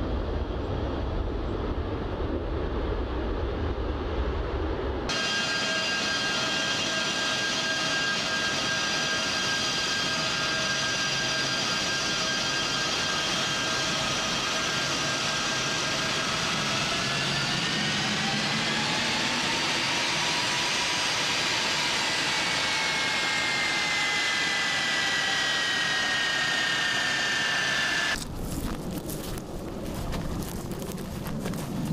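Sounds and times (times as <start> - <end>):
jet engines whining: 0.0 - 31.9.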